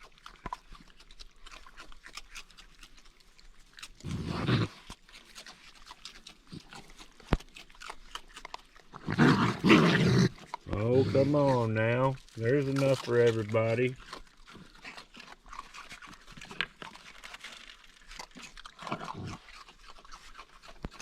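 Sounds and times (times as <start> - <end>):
raccoon growling: 0.0 - 21.0
raccoons crunching dry food: 0.0 - 21.0.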